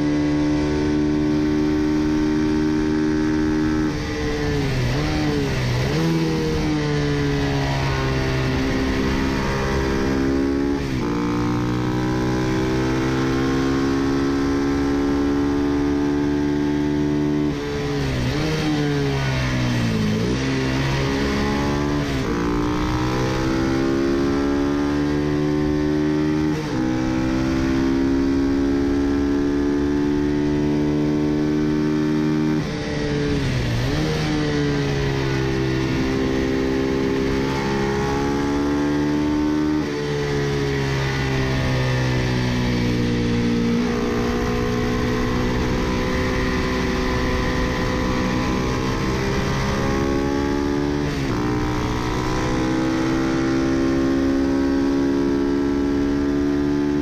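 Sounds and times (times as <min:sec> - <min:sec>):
racing engine at high revs: 0:00.0 - 0:57.0.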